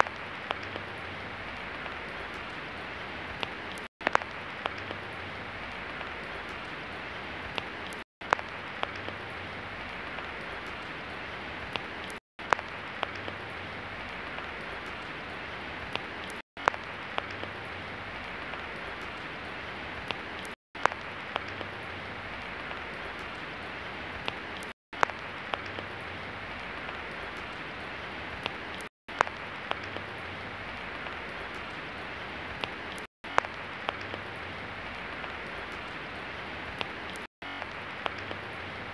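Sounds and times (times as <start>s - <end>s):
sharp raindrops: 0.0s - 38.9s
steady rain falling: 0.0s - 38.9s.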